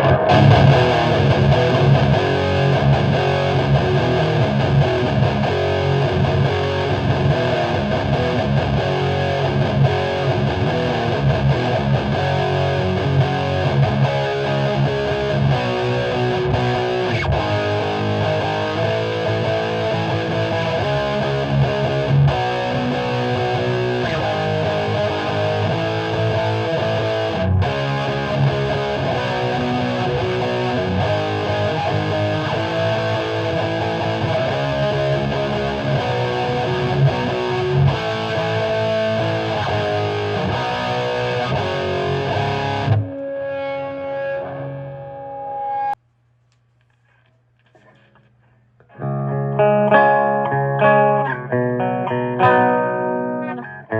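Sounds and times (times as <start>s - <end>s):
distorted electric guitar riffing: 0.0s - 46.0s, 48.8s - 53.9s.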